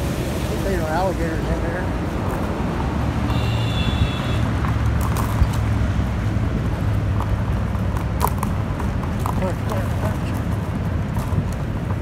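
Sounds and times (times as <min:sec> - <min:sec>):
highway traffic: 0:00.0 - 0:12.0
wind on microphone: 0:00.0 - 0:12.0.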